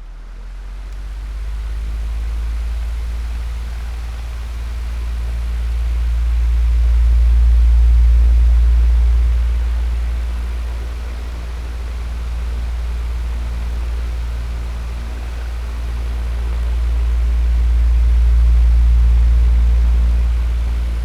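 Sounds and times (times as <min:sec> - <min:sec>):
electric fan running: 0:01.0 - 0:21.0.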